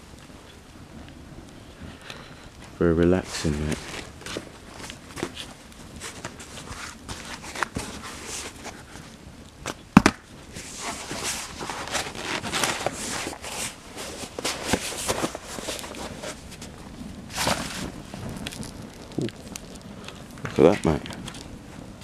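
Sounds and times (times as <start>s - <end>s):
wood fire crackling and popping: 0.0s - 22.0s
sharp loud snap of fire: 3.4s - 13.4s, 14.2s - 22.0s.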